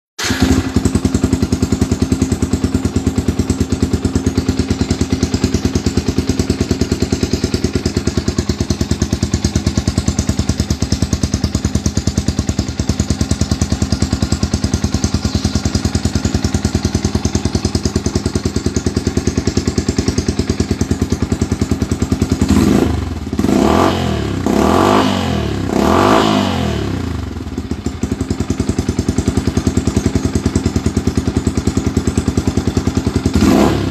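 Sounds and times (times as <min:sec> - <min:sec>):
motorcycle engine idling and revving: 0:00.2 - 0:33.9.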